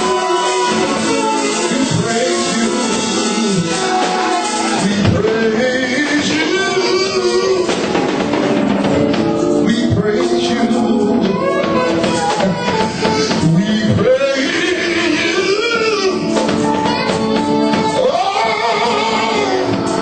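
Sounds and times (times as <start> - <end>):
voices singing and shouting: 0.0 - 8.4, 9.5 - 20.0
band with drums and guitar: 0.0 - 20.0.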